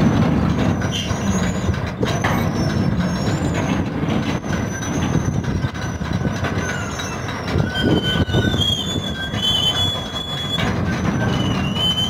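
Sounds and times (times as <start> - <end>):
hatch covers rumbling on rails: 0.0 - 12.0
metal clanks: 0.0 - 12.0
metal wheels squealing: 0.0 - 12.0.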